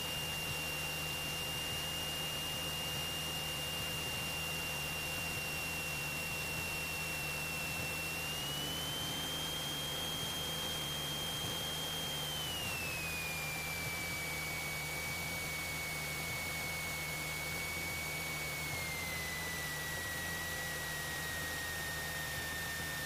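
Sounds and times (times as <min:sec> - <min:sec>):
high engine whine: 0:00.0 - 0:23.0.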